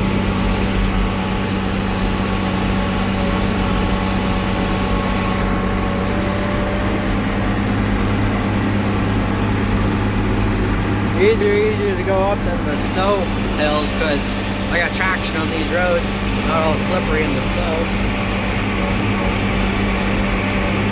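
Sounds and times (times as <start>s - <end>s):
tractor engine at full throttle: 0.0s - 20.9s.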